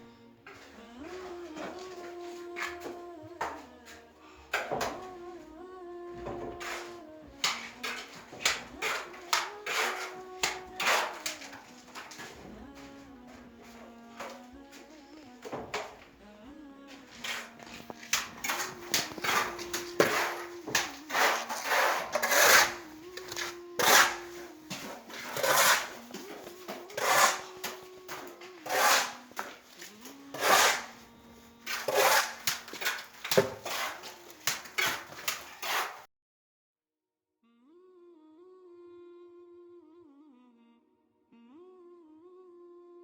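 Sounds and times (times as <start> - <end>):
hummed melody: 0.0 - 22.0, 22.6 - 31.9, 37.4 - 43.0.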